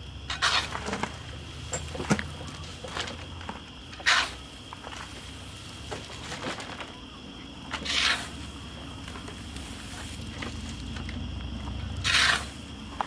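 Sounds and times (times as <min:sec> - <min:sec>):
crunching shovel scoop: 0:00.0 - 0:13.0
shovel scraping wood chips: 0:00.3 - 0:07.0, 0:07.7 - 0:11.0, 0:12.0 - 0:13.0.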